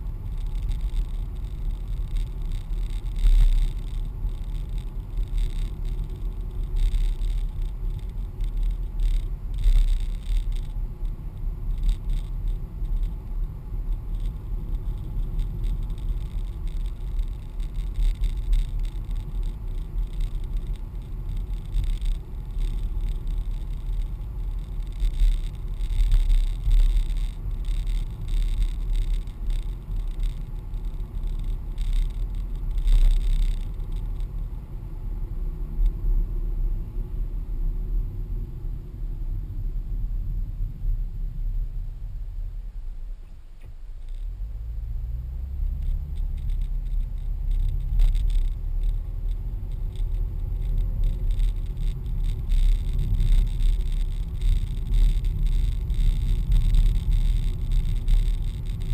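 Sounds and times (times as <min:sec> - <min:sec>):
short rattles and scrapes: 0:00.0 - 0:34.4, 0:45.5 - 0:58.9
road and engine rumble: 0:00.0 - 0:58.9.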